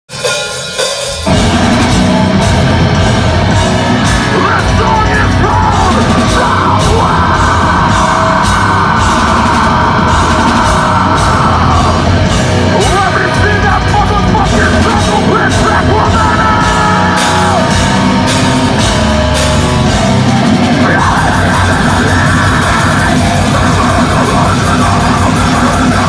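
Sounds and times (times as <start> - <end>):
drums: 0.0 - 26.0
bass: 0.1 - 26.0
distorted guitars: 0.1 - 26.0
harsh screamed vocal: 1.3 - 26.0.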